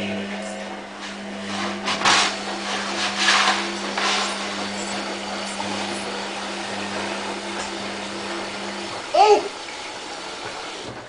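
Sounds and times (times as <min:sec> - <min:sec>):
washing machine motor hum: 0:00.0 - 0:11.0
water and laundry swishing in drum: 0:00.0 - 0:11.0.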